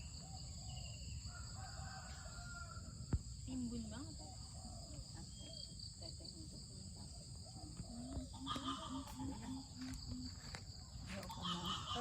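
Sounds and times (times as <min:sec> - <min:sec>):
crickets and insects droning: 0:00.0 - 0:12.0.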